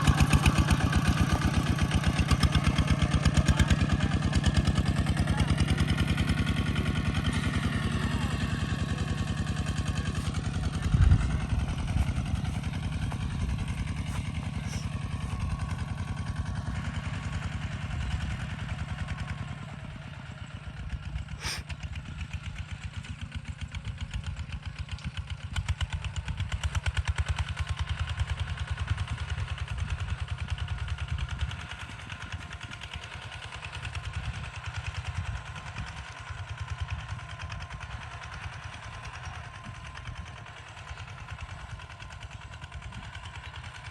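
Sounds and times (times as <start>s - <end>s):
diesel tractor engine chugging: 0.0s - 43.9s.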